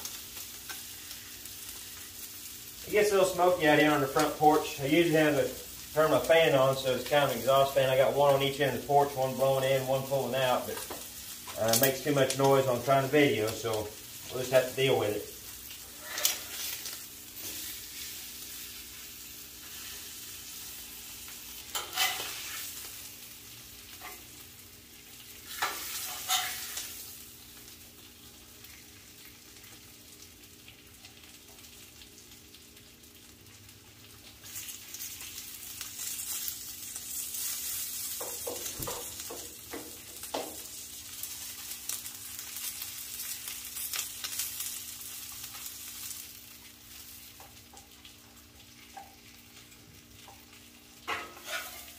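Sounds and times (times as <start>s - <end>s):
steaks sizzling on griddle: 0.0s - 51.9s.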